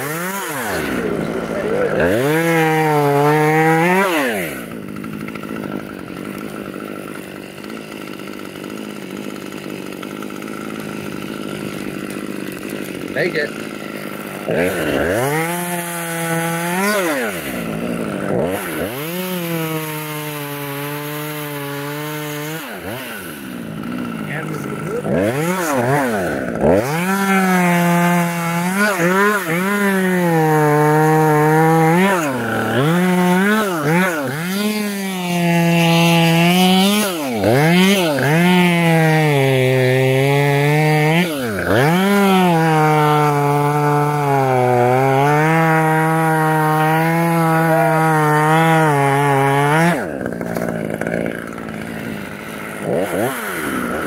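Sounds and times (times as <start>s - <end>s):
chainsaw cutting tree limbs: 0.0s - 54.0s.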